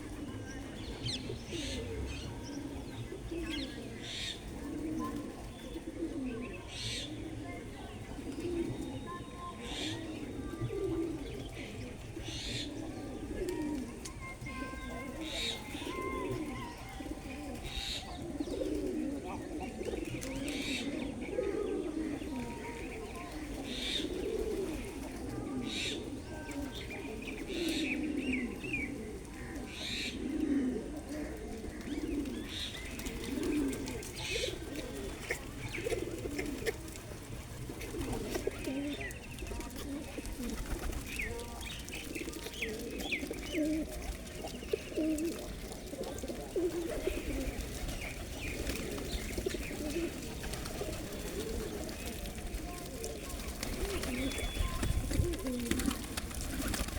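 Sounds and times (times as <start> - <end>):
pigeons cooing: 0.0 - 56.9
small birds chirping: 0.0 - 56.9.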